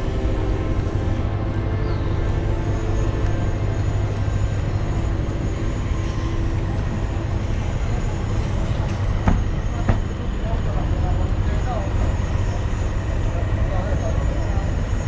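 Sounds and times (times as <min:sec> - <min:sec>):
large engine humming: 0:00.0 - 0:15.0.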